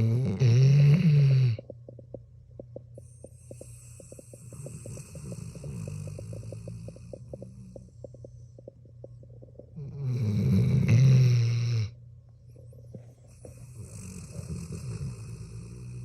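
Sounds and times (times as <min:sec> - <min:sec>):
dog snoring: 0:00.0 - 0:02.1, 0:03.0 - 0:12.0, 0:12.8 - 0:16.0
rattly breathing: 0:00.0 - 0:11.5, 0:12.6 - 0:16.0.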